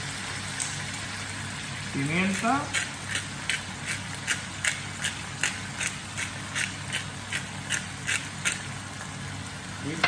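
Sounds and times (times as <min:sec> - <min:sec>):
onion and prawns frying in pan: 0:00.0 - 0:10.0.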